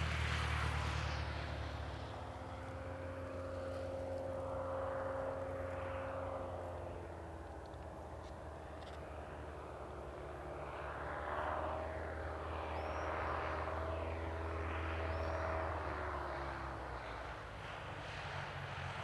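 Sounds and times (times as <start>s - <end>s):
propeller planes flying past: 0.0s - 19.0s.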